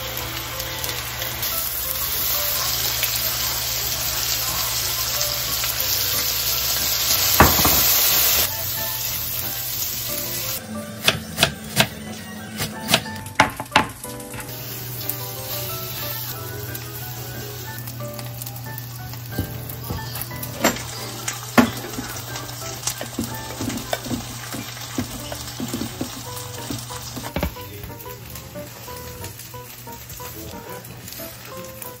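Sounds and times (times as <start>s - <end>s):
food sizzling in a pan: 0.0s - 10.6s, 13.1s - 32.0s
soft background music: 0.0s - 32.0s.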